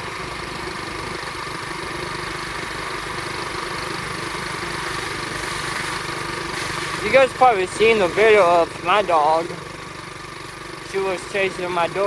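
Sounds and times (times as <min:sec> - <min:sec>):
motorbike engine running at low revs: 0:00.0 - 0:12.0.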